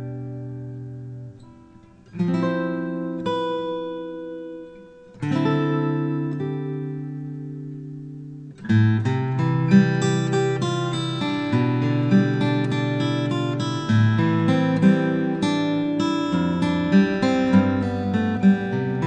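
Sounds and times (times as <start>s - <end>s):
acoustic guitar chords strummed: 0.0s - 19.0s.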